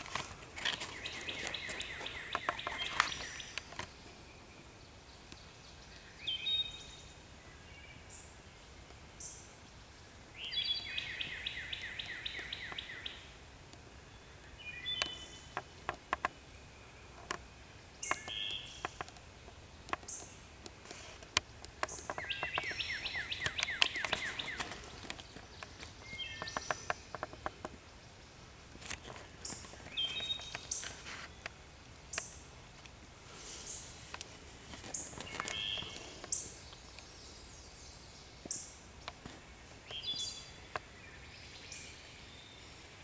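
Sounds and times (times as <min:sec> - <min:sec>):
crackles of dry leaves: 0:00.0 - 0:43.0.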